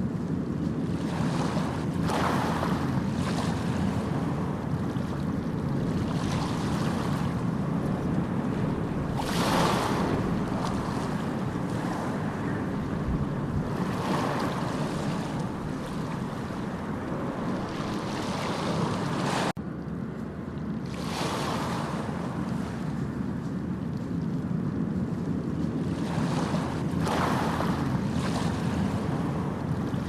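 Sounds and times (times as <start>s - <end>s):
sea waves breaking: 0.0s - 19.6s, 20.3s - 30.0s.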